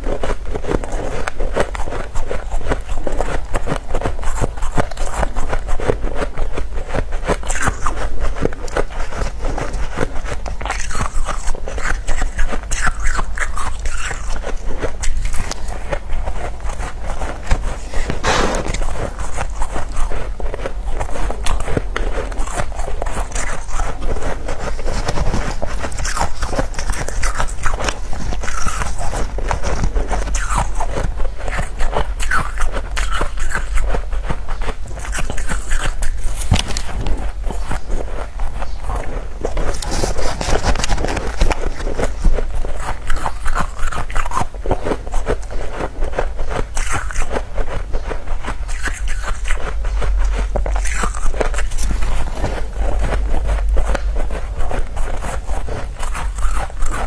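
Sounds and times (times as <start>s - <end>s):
frost being chewed and crunched: 0.0s - 57.0s.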